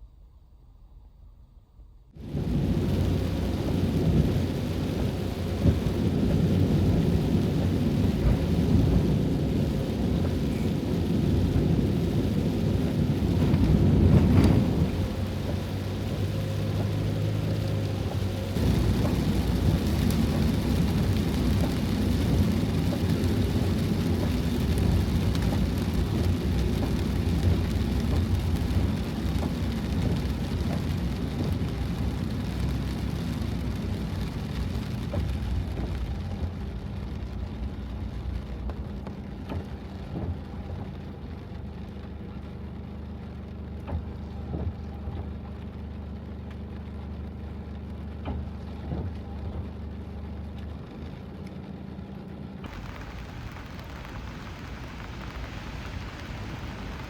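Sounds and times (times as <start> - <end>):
deep rumble: 0.0 - 51.2, 52.6 - 57.0
heavy rain beating on a van: 2.2 - 57.0.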